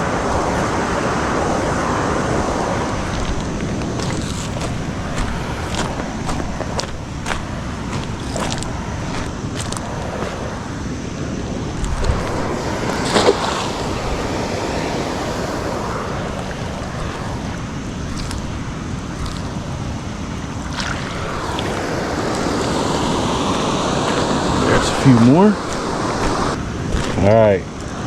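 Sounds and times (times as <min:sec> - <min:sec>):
waterfall rushing: 0:00.0 - 0:26.6
wind buffeting microphone: 0:00.0 - 0:28.0.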